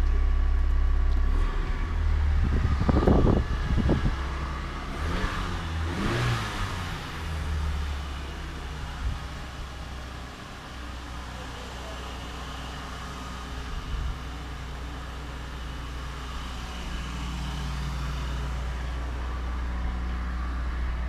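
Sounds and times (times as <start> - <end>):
car engine idling high: 0.0 - 21.0.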